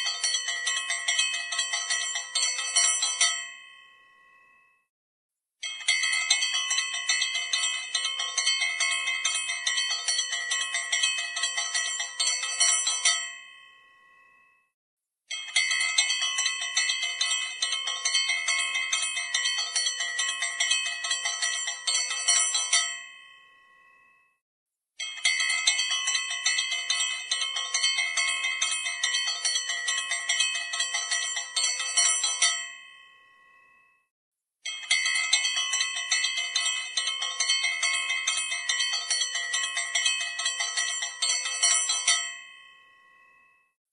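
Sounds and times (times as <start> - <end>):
small bell ringing rapidly: 0.0 - 3.9, 5.6 - 13.7, 15.3 - 23.4, 25.0 - 33.1, 34.6 - 43.6.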